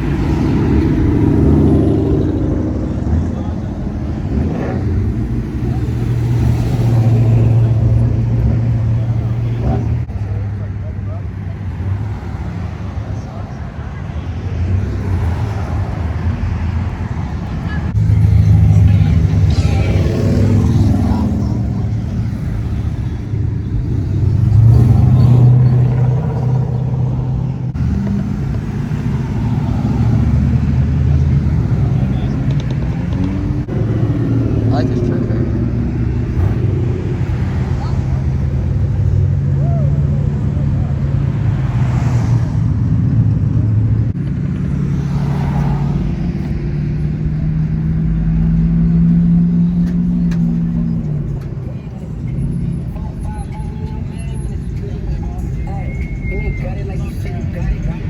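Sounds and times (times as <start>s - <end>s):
car engines passing slowly: 0.0s - 58.0s.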